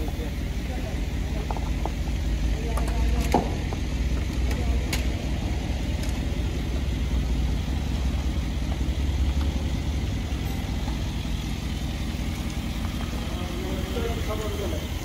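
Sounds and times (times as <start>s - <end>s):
car engine idling low rumble: 0.0s - 15.0s.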